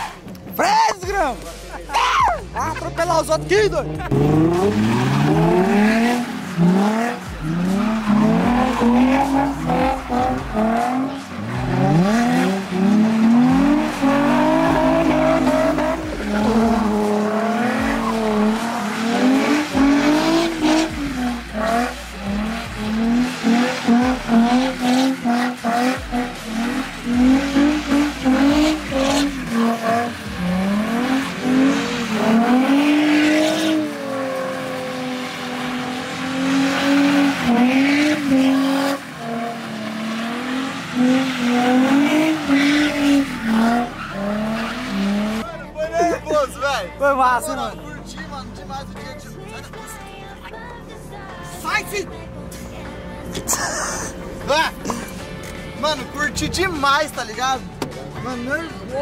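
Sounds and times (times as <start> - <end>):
car engine revving: 0.0 - 50.8.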